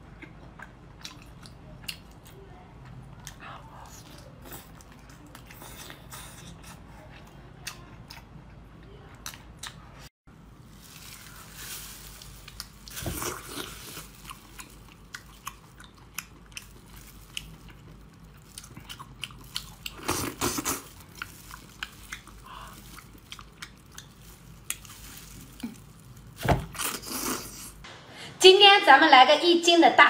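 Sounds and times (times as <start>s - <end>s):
person chewing wetly: 0.0s - 10.0s, 11.1s - 27.8s.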